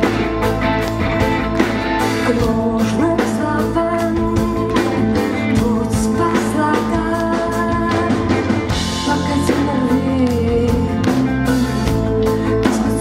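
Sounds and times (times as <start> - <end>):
live rock band playing: 0.0 - 13.0
lead singer singing: 2.1 - 13.0.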